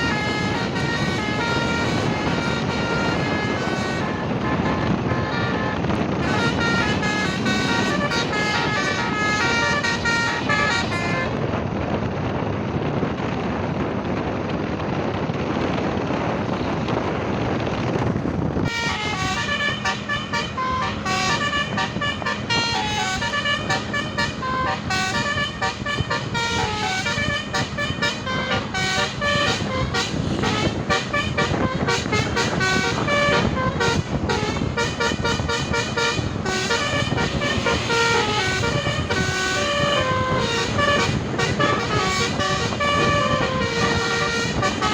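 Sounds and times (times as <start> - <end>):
multi-tone bus horn melody: 0.0 - 11.9, 18.5 - 44.9
engine and road noise: 0.0 - 44.9.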